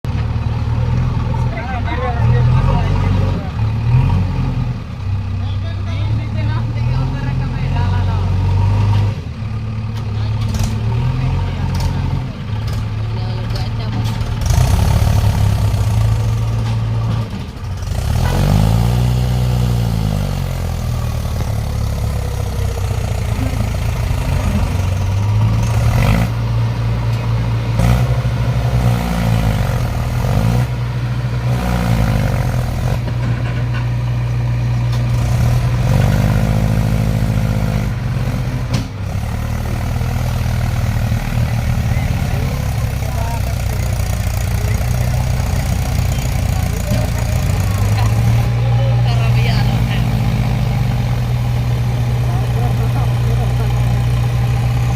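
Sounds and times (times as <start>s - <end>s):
heavy diesel engines revving: 0.0s - 54.9s.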